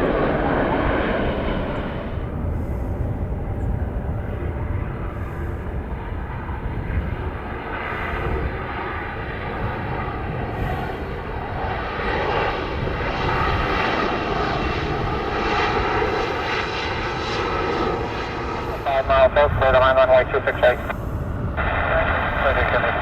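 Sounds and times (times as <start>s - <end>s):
airliner engines: 0.0s - 23.0s.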